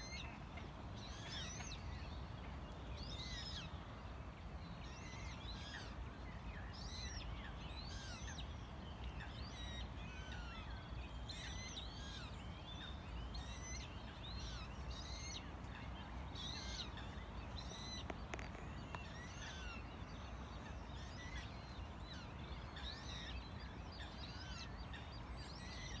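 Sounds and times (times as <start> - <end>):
songbirds chirping and whistling: 0.0 - 26.0.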